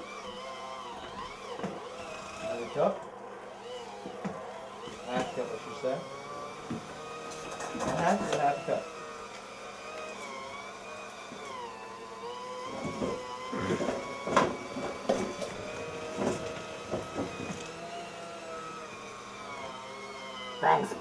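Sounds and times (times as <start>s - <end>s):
electric hand mixer running: 0.0s - 21.0s.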